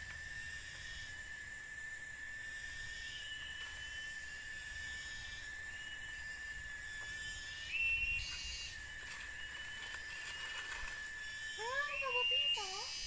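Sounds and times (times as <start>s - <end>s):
continuous high hiss: 0.0s - 13.0s
insects whistling calls: 0.0s - 13.0s.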